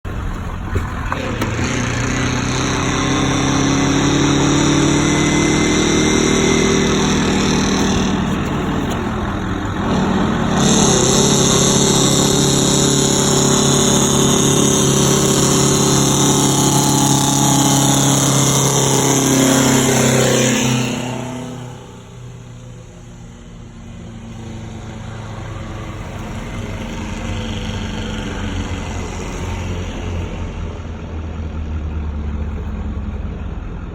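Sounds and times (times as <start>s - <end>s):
truck engine working hard: 0.0s - 33.9s.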